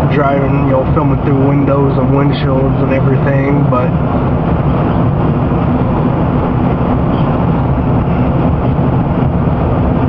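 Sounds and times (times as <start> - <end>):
vehicle road and engine noise: 0.0 - 10.0.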